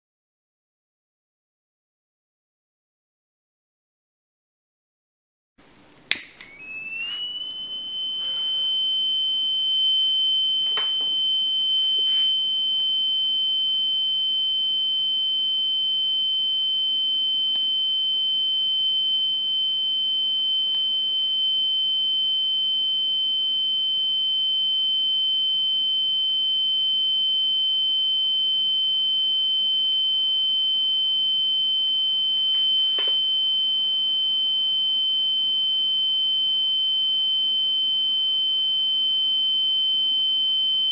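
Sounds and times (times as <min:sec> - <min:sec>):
high-pitched alarm buzzer: 0:06.6 - 0:40.9.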